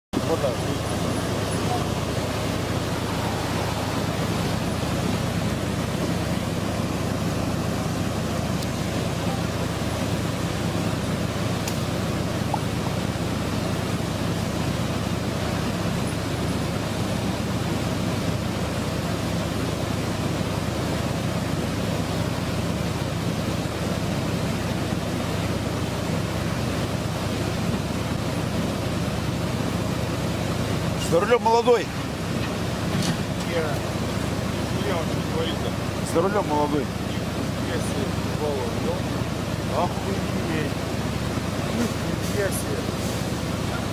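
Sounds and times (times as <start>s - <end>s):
diesel engines humming: 0.2s - 43.9s
river rushing over rocks: 0.2s - 43.9s.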